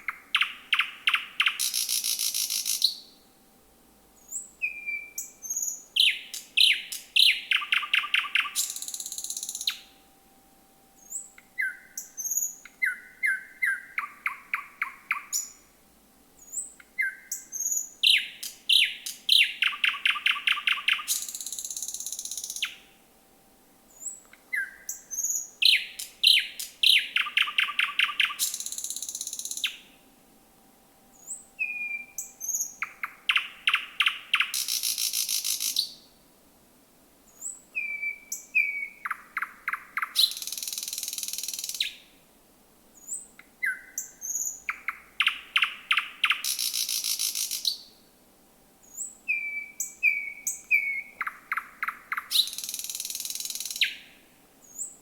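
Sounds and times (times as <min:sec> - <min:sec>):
thrush nightingale singing: 0:00.0 - 0:03.2, 0:04.2 - 0:15.8, 0:16.4 - 0:23.0, 0:23.9 - 0:30.1, 0:31.1 - 0:36.2, 0:37.3 - 0:42.1, 0:43.0 - 0:48.0, 0:48.8 - 0:55.0.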